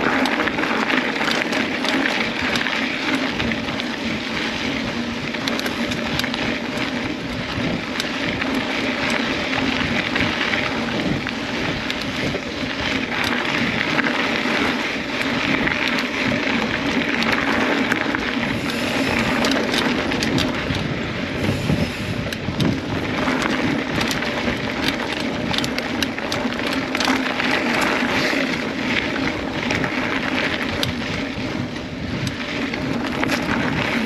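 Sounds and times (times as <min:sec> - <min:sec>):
bike rolling on dirt trail: 0:00.0 - 0:34.0
small clicks and rattles: 0:00.0 - 0:34.0.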